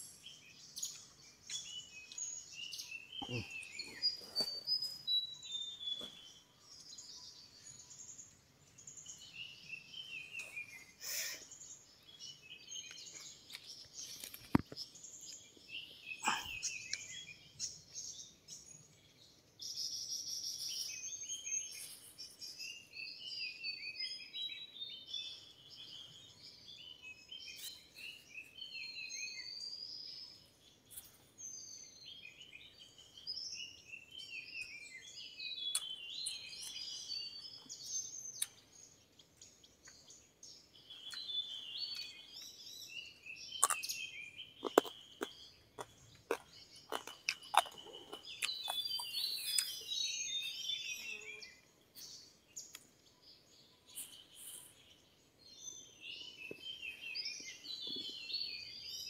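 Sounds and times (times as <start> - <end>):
forest birds calling: 0.0 - 59.0.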